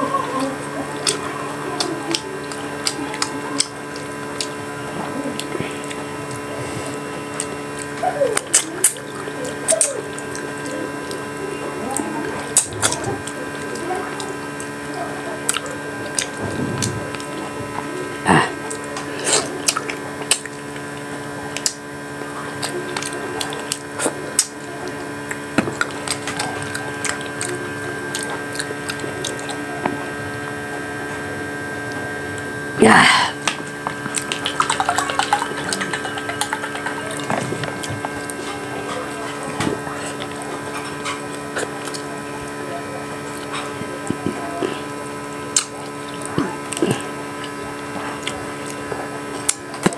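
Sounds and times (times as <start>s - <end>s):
steady electrical hum: 0.0s - 49.9s
chewing and lip smacks: 0.2s - 30.6s, 33.4s - 42.6s, 45.5s - 49.9s.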